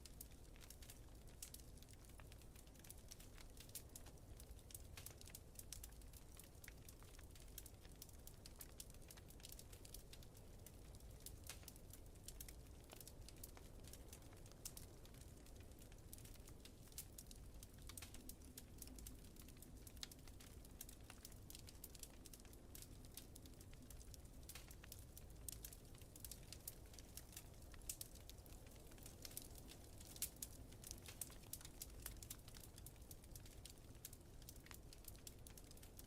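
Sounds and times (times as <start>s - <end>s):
faint wood fire crackling: 0.0s - 36.0s
low fire rumble: 0.0s - 36.0s
small pops and snaps: 0.0s - 36.0s.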